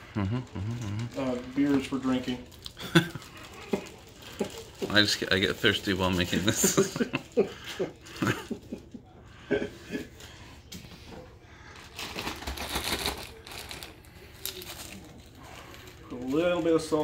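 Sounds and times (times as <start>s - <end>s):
plastic bag crinkling: 0.0s - 8.8s, 11.5s - 17.0s.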